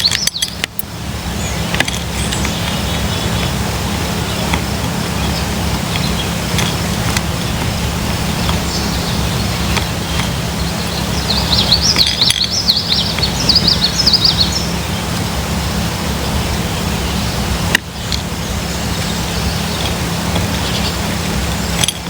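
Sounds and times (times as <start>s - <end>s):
low background rumble: 0.0s - 22.0s
songbird chirping: 0.0s - 22.0s.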